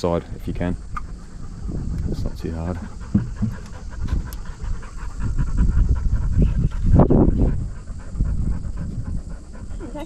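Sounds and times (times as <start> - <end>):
dog panting: 0.4 - 10.0.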